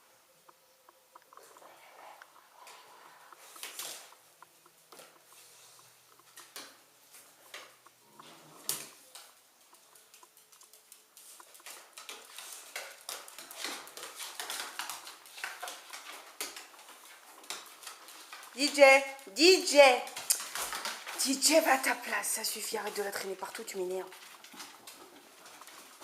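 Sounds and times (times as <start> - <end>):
dogs scuffling in play: 2.6 - 26.0.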